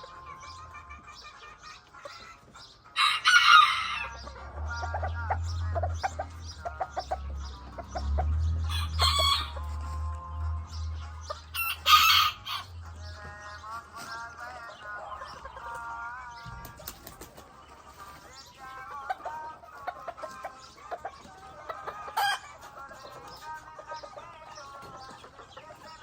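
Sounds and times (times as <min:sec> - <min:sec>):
roosters crowing and clucking: 0:00.0 - 0:26.0.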